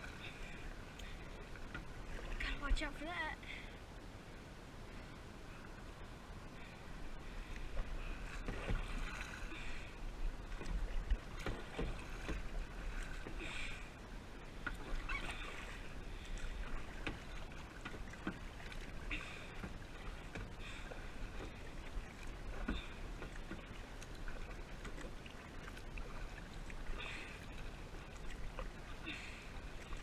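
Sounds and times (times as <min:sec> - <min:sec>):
paddle splashing through water: 0:00.0 - 0:02.6, 0:07.2 - 0:30.0.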